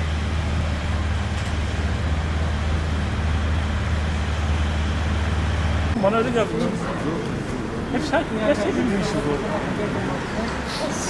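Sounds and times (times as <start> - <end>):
street noise: 0.0 - 11.0
vehicle engine idling: 0.0 - 11.0.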